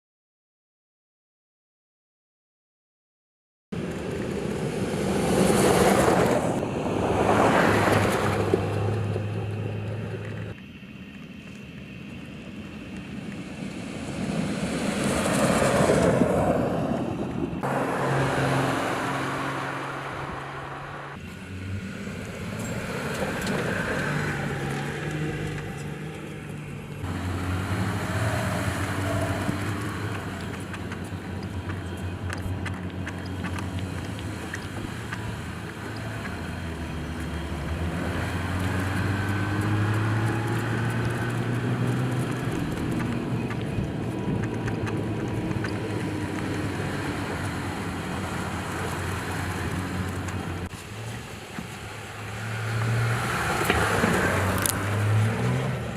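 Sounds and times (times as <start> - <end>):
pickup engine running while driving: 3.8 - 16.4, 17.0 - 55.9.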